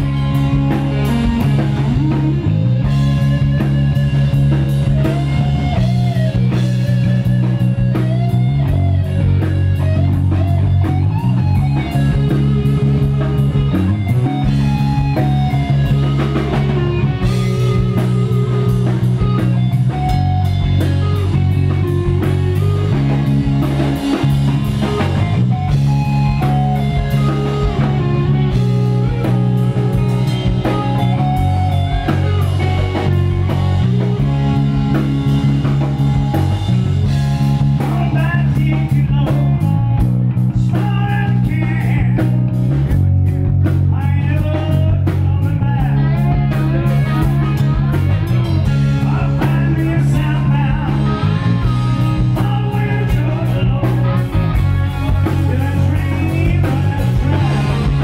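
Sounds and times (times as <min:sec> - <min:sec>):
bass guitar: 0:00.0 - 0:58.0
drum kit: 0:00.0 - 0:58.0
electric guitar lead with bends: 0:00.0 - 0:58.0.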